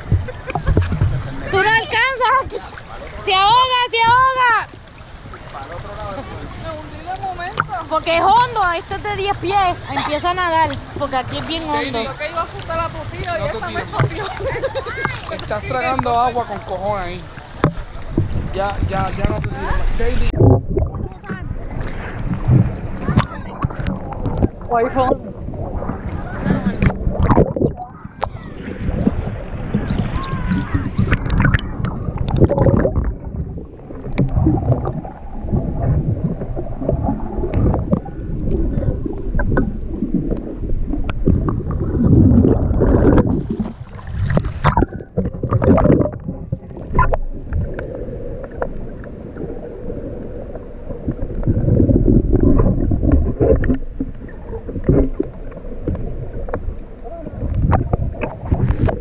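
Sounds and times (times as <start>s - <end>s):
water sloshing against camera housing: 0.0s - 4.9s, 7.1s - 35.2s, 35.8s - 49.4s, 50.5s - 59.0s.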